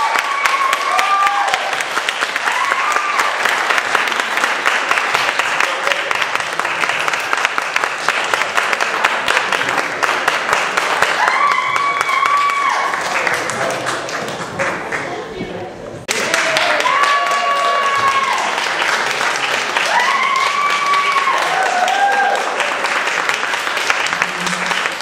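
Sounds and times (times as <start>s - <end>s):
audience applauding: 0.0s - 15.2s, 16.1s - 25.0s.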